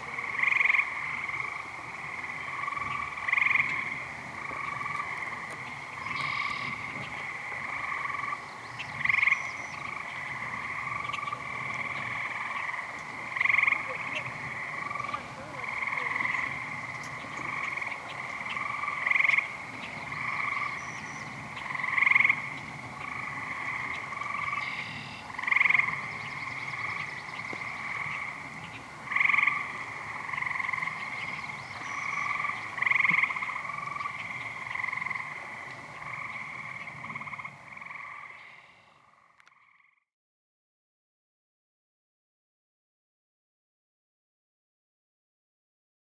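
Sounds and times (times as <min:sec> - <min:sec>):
chorus of frogs calling: 0:00.0 - 0:40.0
nearer frog call: 0:00.0 - 0:40.0.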